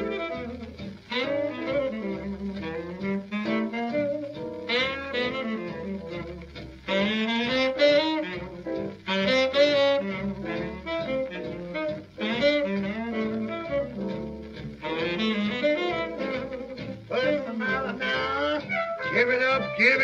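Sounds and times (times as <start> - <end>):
jazz rhythm section: 0.0 - 20.0
tenor saxophone solo: 0.0 - 20.0.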